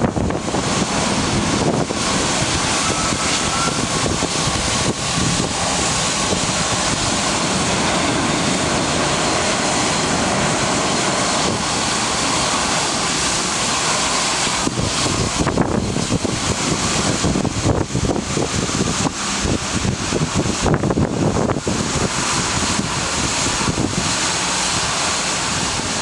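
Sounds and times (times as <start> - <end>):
jet engines running: 0.0 - 26.0
wind buffeting microphone: 0.0 - 26.0.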